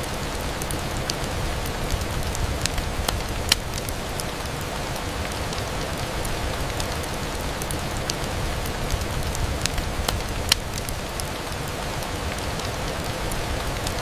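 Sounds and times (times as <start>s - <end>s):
rain on a window: 0.0s - 14.0s
sharp crackles: 0.0s - 14.0s.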